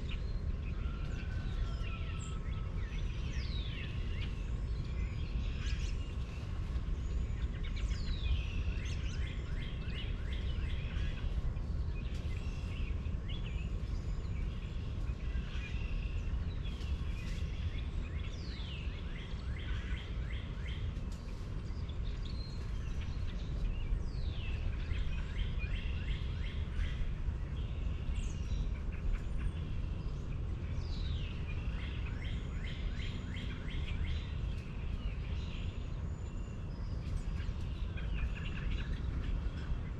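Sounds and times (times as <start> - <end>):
birds calling and chirping: 0.0 - 39.9.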